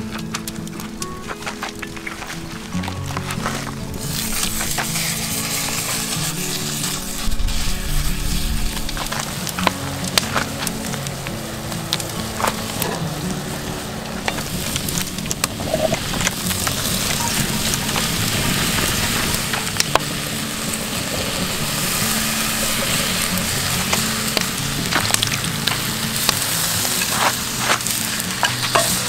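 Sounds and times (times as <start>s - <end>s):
background music: 0.0s - 29.0s
meat sizzling in a pot: 0.0s - 29.0s
wooden spoon scraping a pot: 1.4s - 10.6s, 11.9s - 29.0s.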